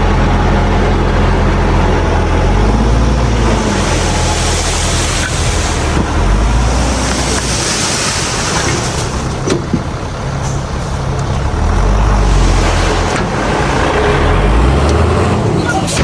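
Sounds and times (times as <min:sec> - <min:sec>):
diesel machinery engine rumble: 0:00.0 - 0:16.0.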